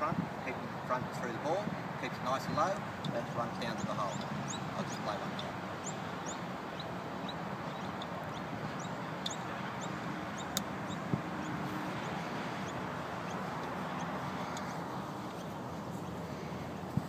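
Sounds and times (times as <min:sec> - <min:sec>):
steady outdoor hiss: 0:00.0 - 0:17.0
small birds chirping: 0:02.8 - 0:17.0.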